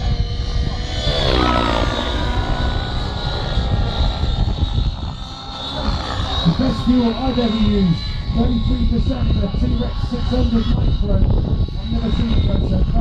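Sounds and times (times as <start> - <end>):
low rumble: 0.0 - 13.0
model helicopter engine whining: 0.0 - 13.0.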